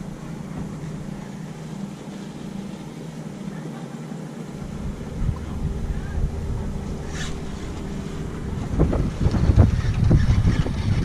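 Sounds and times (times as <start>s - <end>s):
boat motor humming: 0.0s - 11.0s
noisy hiss: 0.0s - 11.0s.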